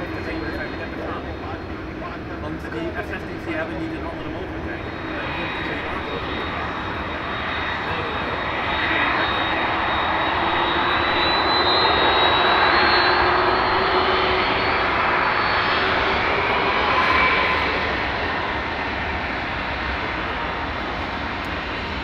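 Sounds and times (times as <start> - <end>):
jet engines with high whine: 0.0 - 22.0.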